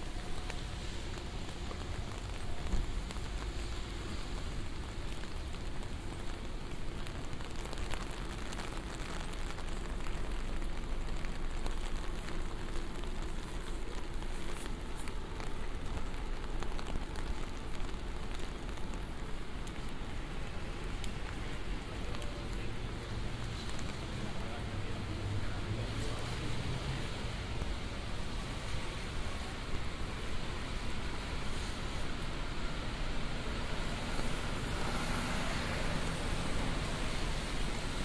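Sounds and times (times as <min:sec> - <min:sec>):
rain pattering on an umbrella: 0:00.0 - 0:38.0.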